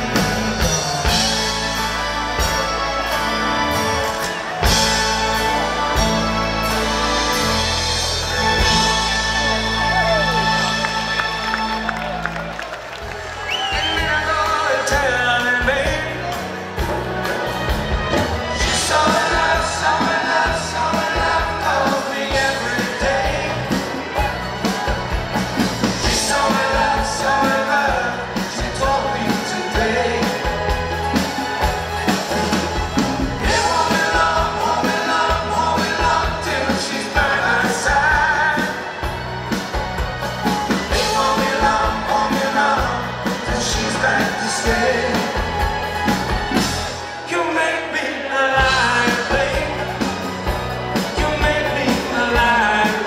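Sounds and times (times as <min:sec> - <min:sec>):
electric bass: 0:00.0 - 0:47.2, 0:48.6 - 0:53.0
acoustic guitar: 0:00.0 - 0:53.0
drums: 0:00.0 - 0:53.0
lead vocals: 0:00.0 - 0:53.0.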